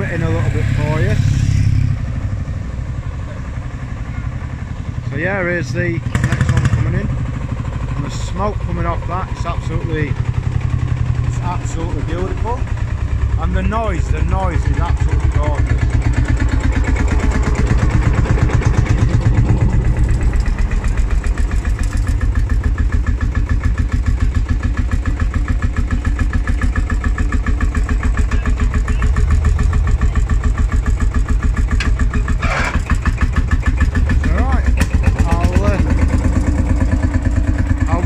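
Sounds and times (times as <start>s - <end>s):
tractor engine chugging: 0.0s - 38.0s.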